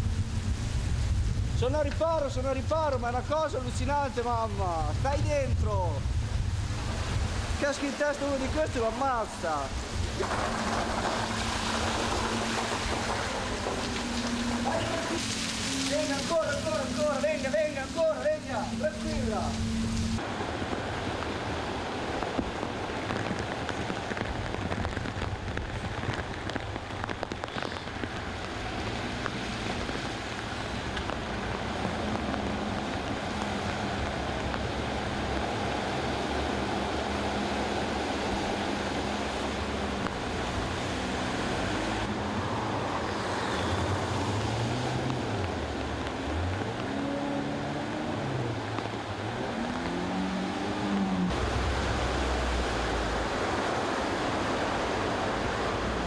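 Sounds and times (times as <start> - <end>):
car engines humming: 0.0 - 22.2, 26.0 - 56.0
water splashing around cars: 0.0 - 56.0.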